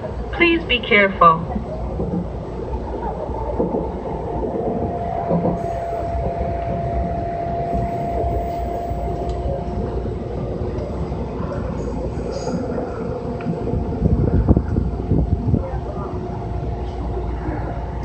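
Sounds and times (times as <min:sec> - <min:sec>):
thin steady whine: 0:00.0 - 0:18.0
train wheels rumbling on rail: 0:00.0 - 0:18.0.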